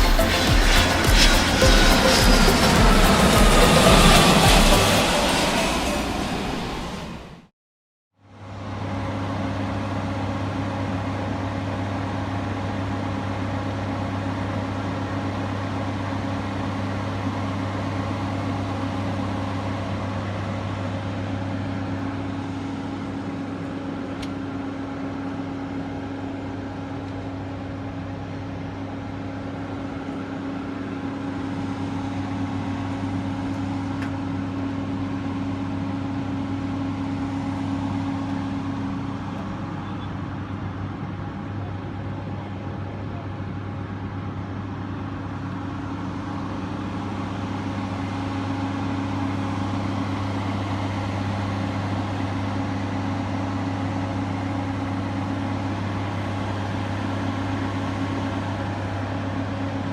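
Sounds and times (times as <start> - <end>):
jet engines running: 0.0 - 7.5, 9.0 - 59.9.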